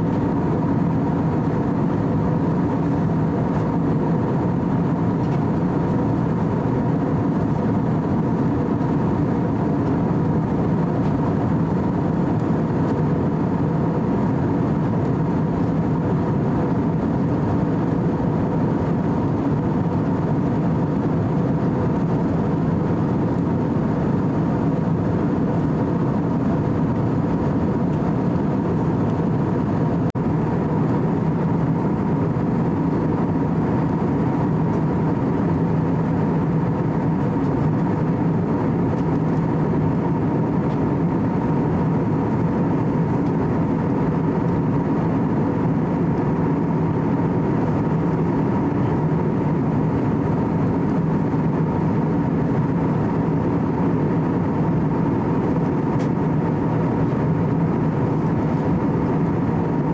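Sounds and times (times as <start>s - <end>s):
airliner engine and airflow noise: 0.0s - 59.9s.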